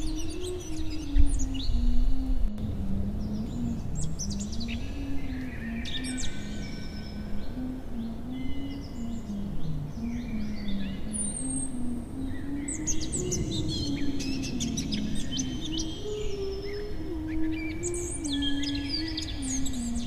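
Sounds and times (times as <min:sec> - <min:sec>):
slow low melody: 0:00.0 - 0:20.0
small birds chirping: 0:00.0 - 0:20.0.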